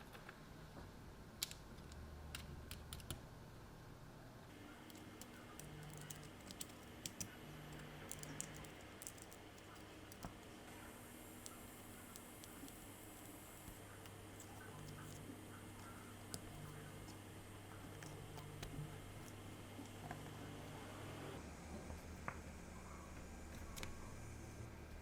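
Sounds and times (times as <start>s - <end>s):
low steady background hum: 0.0s - 25.0s.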